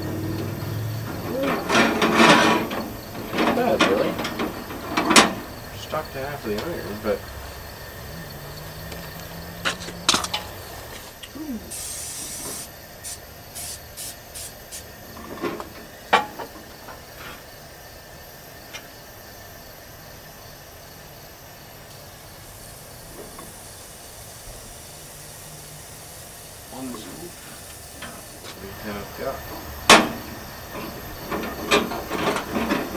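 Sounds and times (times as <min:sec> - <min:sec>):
stove hissing: 0:00.0 - 0:32.9.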